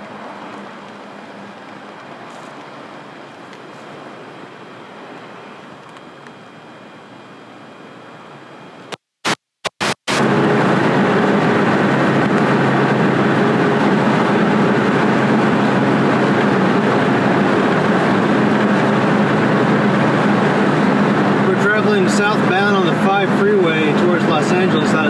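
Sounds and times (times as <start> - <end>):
car road and engine noise: 0.0 - 9.0, 9.7 - 25.0.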